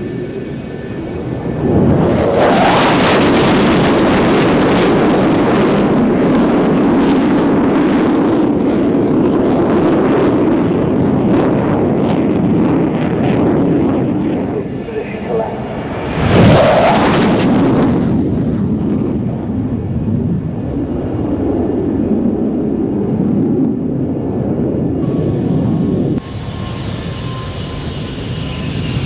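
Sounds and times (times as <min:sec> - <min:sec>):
jet engine roar: 0:00.0 - 0:29.0.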